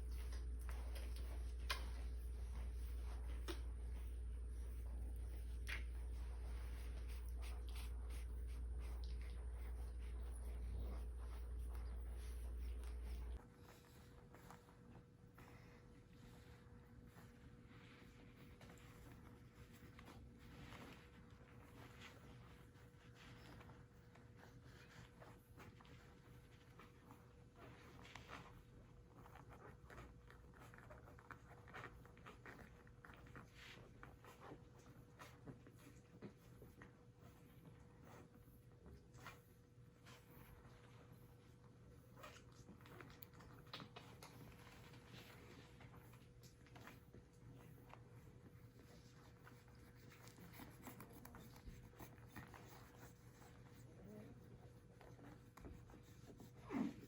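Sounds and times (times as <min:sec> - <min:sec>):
light scratching and rustling: 0:00.0 - 0:57.0
low steady hum: 0:00.0 - 0:57.0.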